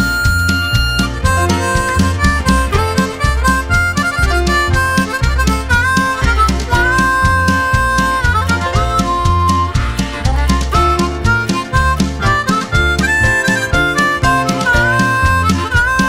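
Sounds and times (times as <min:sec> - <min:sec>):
bass: 0:00.0 - 0:16.0
drums keeping a beat: 0:00.0 - 0:16.0
harmonica melody: 0:00.0 - 0:16.0.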